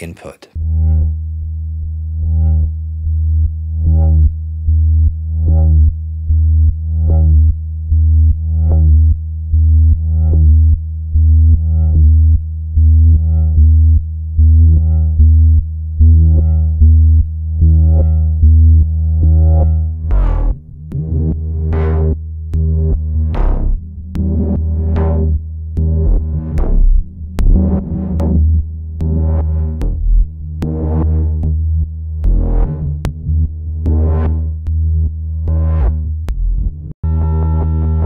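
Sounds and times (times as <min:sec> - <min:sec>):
pulsing synth notes: 0:00.6 - 0:10.8, 0:11.4 - 0:38.0
deep bass synth drone: 0:00.6 - 0:38.0.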